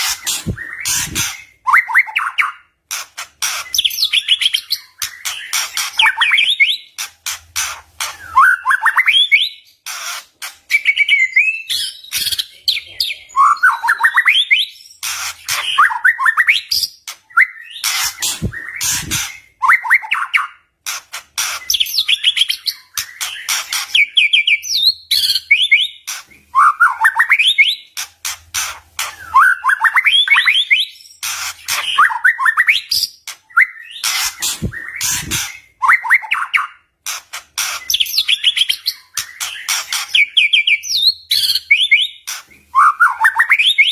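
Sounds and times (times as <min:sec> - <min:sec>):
bird whistling song: 0:00.0 - 0:02.8, 0:03.5 - 0:07.0, 0:08.0 - 0:12.5, 0:13.2 - 0:20.7, 0:21.5 - 0:28.0, 0:29.0 - 0:36.9, 0:37.6 - 0:43.9.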